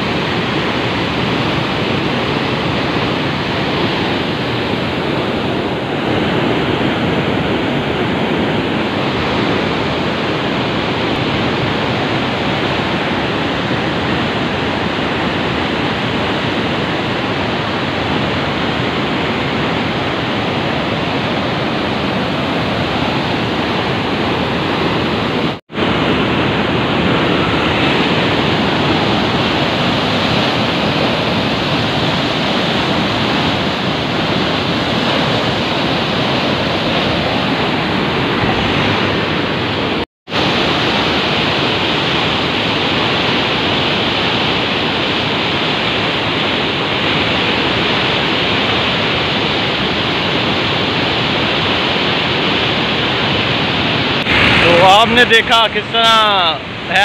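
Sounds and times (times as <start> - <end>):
roar of rushing floodwater: 0.0 - 57.0.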